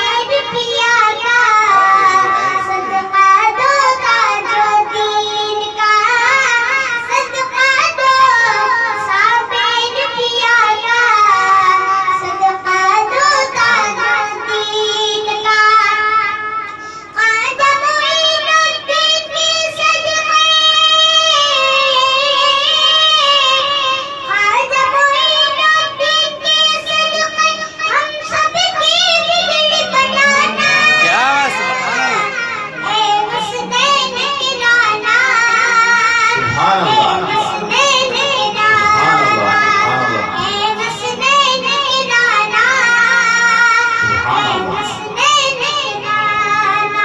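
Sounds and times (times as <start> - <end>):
boy singing into a microphone: 0.0 - 47.0.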